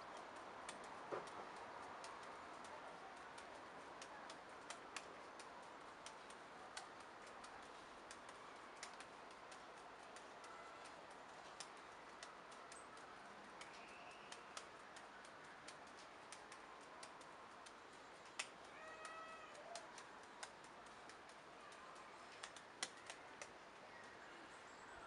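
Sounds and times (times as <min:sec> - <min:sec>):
light steady hiss: 0:00.0 - 0:25.0
juggling balls landing in hands: 0:00.6 - 0:13.0, 0:13.6 - 0:21.4, 0:22.3 - 0:23.6.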